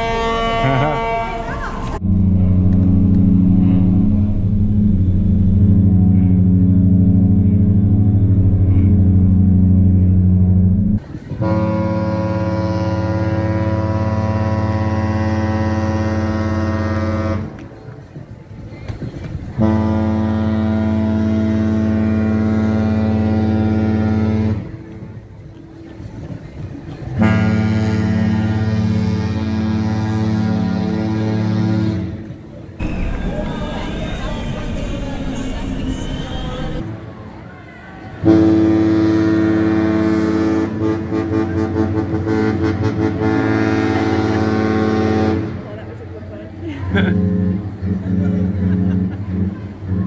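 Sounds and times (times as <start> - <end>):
ship's horn blast: 0.0 - 17.8, 19.5 - 25.3, 26.9 - 37.3, 38.0 - 50.0.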